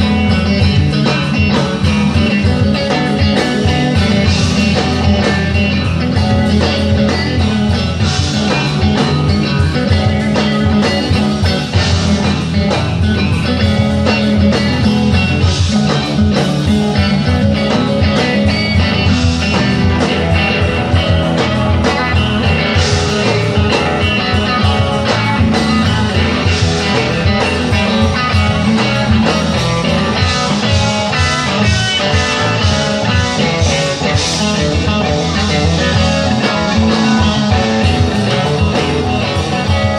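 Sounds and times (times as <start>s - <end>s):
bass: 0.0s - 39.9s
drum beat: 0.0s - 39.9s
electric guitar: 0.0s - 39.9s.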